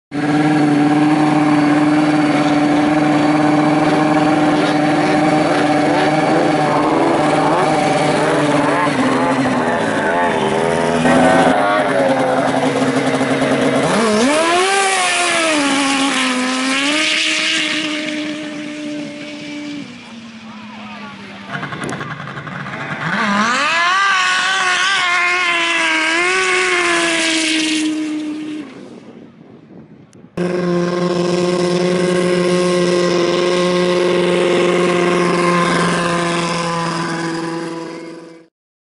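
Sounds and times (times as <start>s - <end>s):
snowmobile engine revving: 0.1s - 29.0s, 30.4s - 38.5s.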